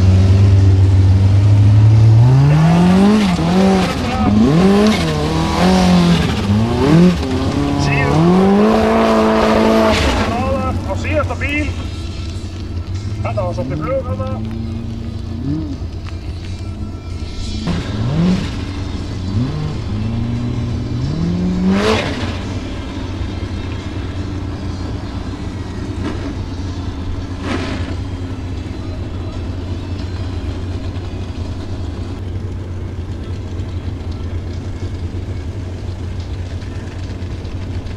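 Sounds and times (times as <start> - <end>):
buggy engine revving: 0.0 - 37.9.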